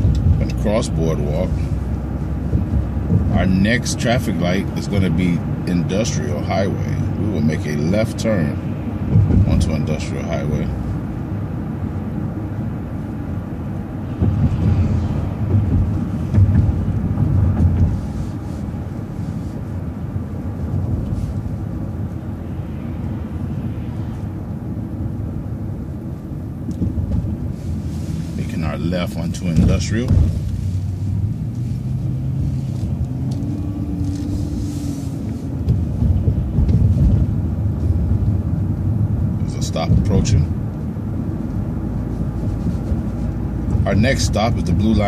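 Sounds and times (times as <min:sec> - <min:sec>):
bus engine rumble: 0:00.0 - 0:45.0
road noise: 0:00.0 - 0:45.0.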